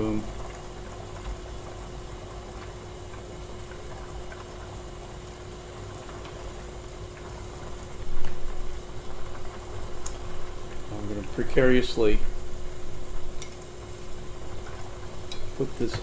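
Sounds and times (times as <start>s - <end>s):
faint steady hum: 0.0s - 16.0s
water boiling in a pot: 0.0s - 16.0s.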